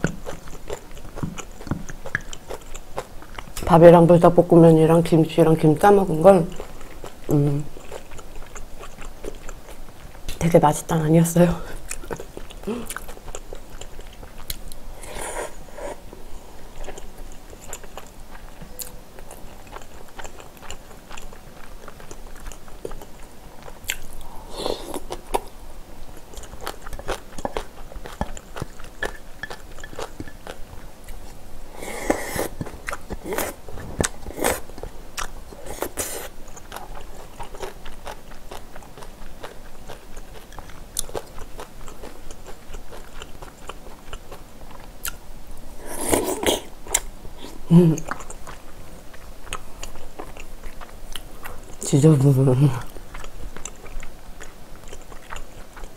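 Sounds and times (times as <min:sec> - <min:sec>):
chewing and biting food: 0:00.0 - 0:03.7, 0:06.5 - 0:10.4, 0:11.8 - 0:14.8, 0:16.7 - 0:31.4, 0:32.0 - 0:45.2, 0:45.9 - 0:52.1, 0:52.8 - 0:55.9.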